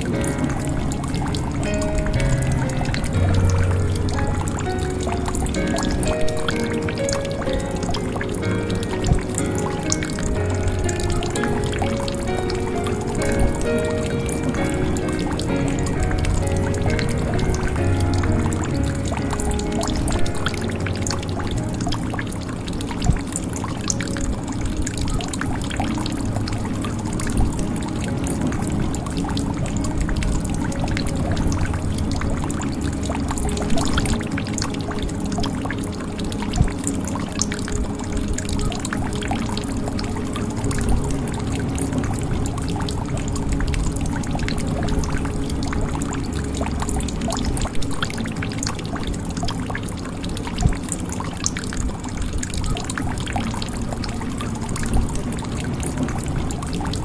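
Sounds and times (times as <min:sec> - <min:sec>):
water dripping into a jug: 0:00.0 - 0:57.0.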